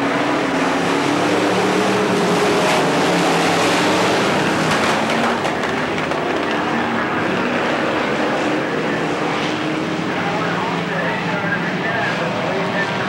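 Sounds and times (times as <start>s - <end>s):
race cars engines roaring past: 0.0s - 13.0s.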